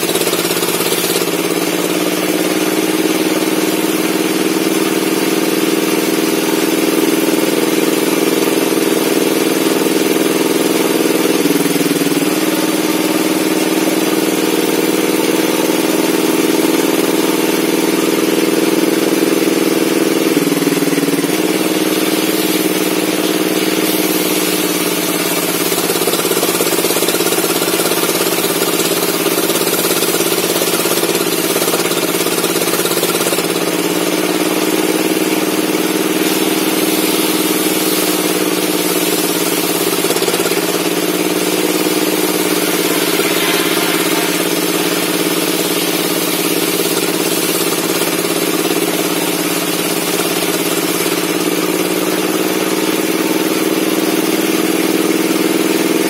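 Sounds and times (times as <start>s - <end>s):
circular saw running: 0.0s - 55.3s.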